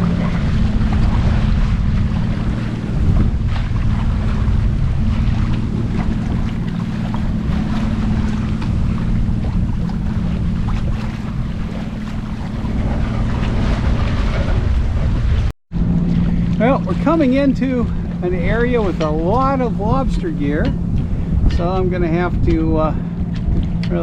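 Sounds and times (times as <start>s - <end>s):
steady low hum: 0.0s - 24.0s
water rushing along hull: 0.0s - 24.0s
wind buffeting microphone: 0.0s - 24.0s.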